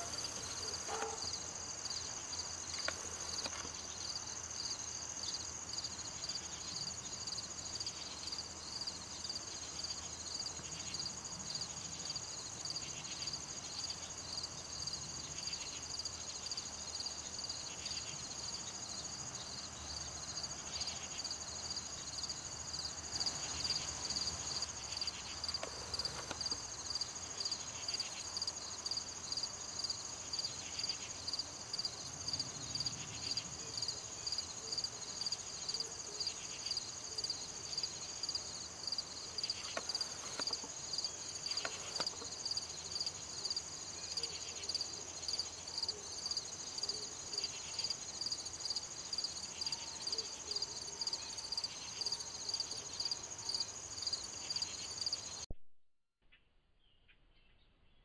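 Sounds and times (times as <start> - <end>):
crickets chirping: 0.0 - 55.4
high-pitched insect trill: 0.0 - 55.4.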